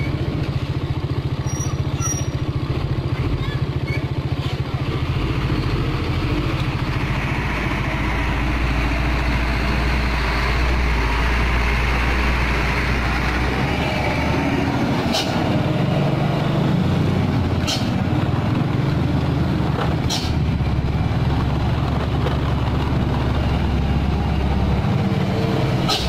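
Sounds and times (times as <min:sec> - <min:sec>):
truck diesel engine passing: 0:00.0 - 0:26.0.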